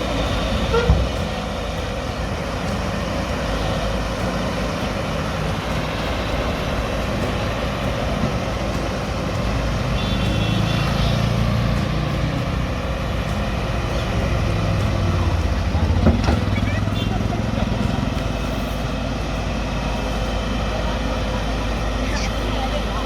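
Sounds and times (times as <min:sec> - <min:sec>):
excavator diesel engine rumbling: 0:00.0 - 0:23.0.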